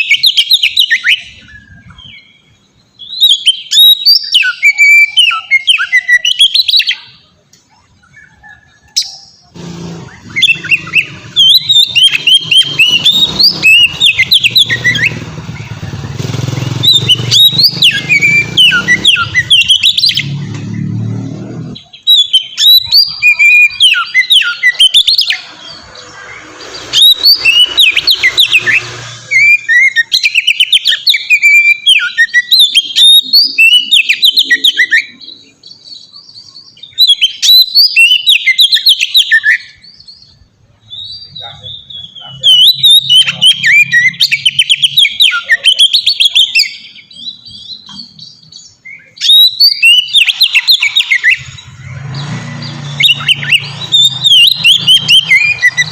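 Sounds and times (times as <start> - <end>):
bird singing whistles and chirps: 0.0 - 55.9.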